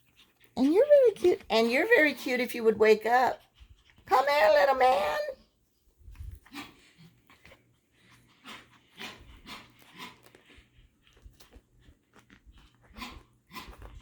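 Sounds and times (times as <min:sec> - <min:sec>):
puppies rustling and gnawing: 0:00.0 - 0:14.0.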